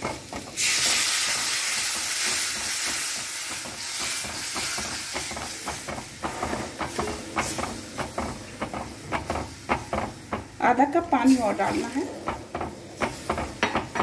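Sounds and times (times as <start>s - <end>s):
food sizzling in hot oil: 0.0s - 14.0s
spatula scraping a pan: 0.0s - 14.0s.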